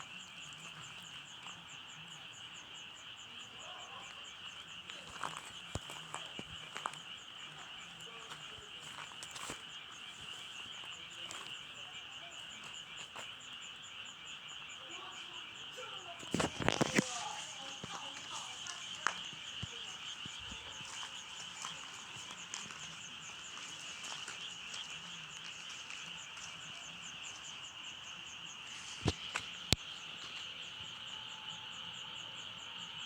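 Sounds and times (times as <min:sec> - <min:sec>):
frogs calling in chorus: 0:00.0 - 0:33.0.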